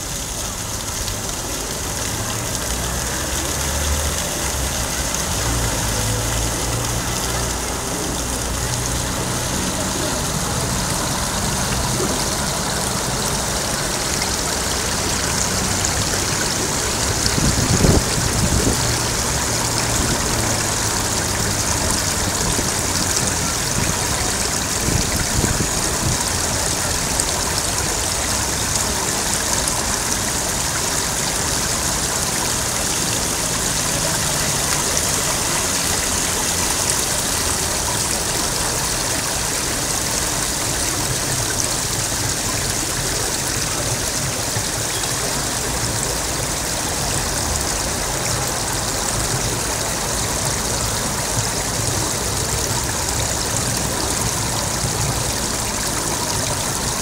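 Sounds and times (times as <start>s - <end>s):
fountain water splashing on stone: 0.0s - 57.0s.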